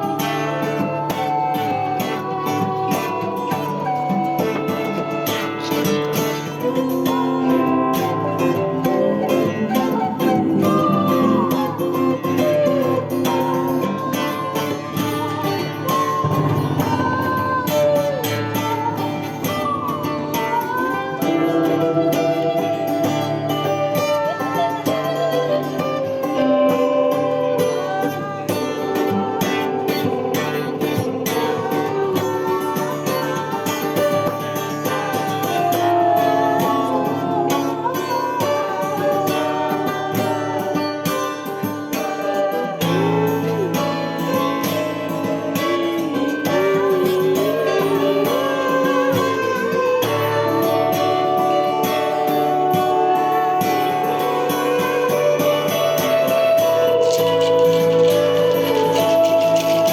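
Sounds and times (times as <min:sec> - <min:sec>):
bending lead guitar notes: 0:00.0 - 0:59.9.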